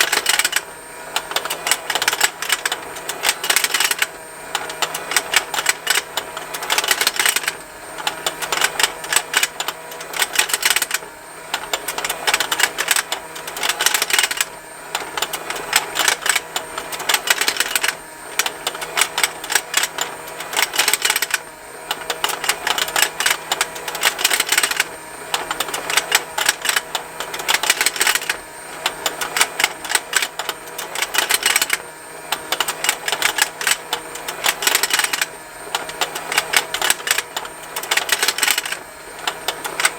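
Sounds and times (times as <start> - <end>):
rapid plastic ticking: 0.0 - 0.6, 1.2 - 31.8, 32.4 - 39.9
faint motor hum: 0.0 - 39.9.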